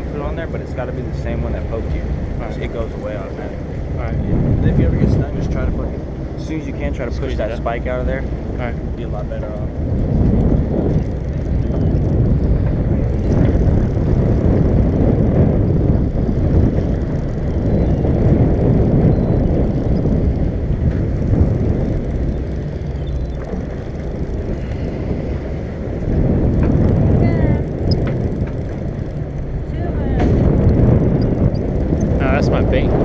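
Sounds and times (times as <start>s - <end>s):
boat engine rumble: 0.0s - 33.0s
wind buffeting the microphone: 0.0s - 33.0s.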